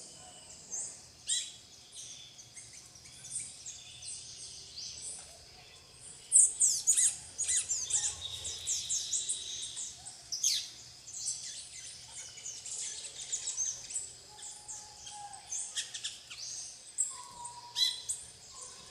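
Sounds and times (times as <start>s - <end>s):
small birds calling: 0.0s - 18.9s.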